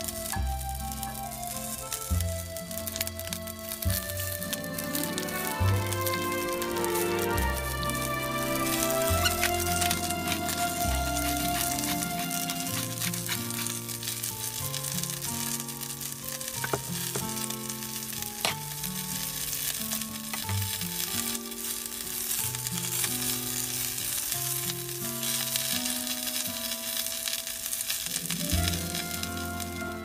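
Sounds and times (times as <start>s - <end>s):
food sizzling in skillet: 0.0s - 30.0s
soft background music: 0.0s - 30.0s
sharp pops: 1.1s - 29.6s.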